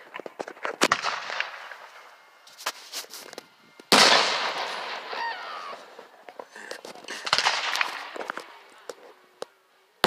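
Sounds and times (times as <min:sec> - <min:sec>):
fireworks bangs: 0:00.0 - 0:09.0
small fireworks cracks: 0:00.0 - 0:10.0
fireworks hiss: 0:00.6 - 0:09.1.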